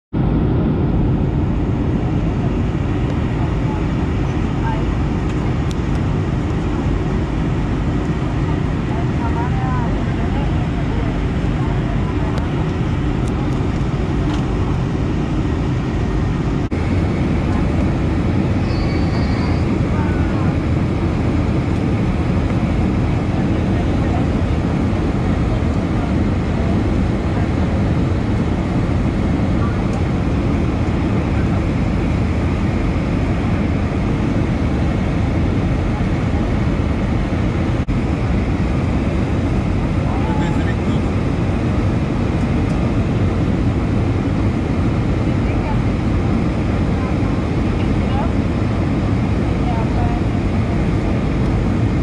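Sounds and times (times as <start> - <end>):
jet engine cabin noise: 0.1 - 52.0
rushing airflow: 0.1 - 52.0.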